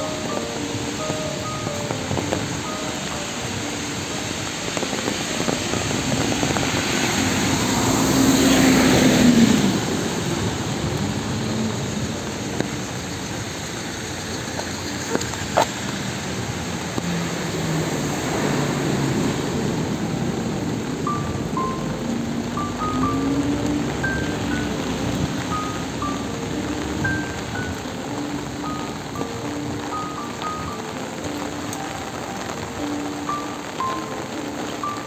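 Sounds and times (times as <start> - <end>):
steady traffic hiss: 0.0 - 35.0
vehicle passing on wet street: 0.0 - 35.0.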